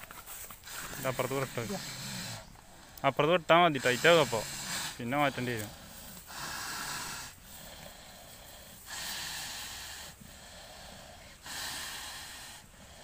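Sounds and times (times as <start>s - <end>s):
water buffalo breathing heavily: 0.0s - 13.0s.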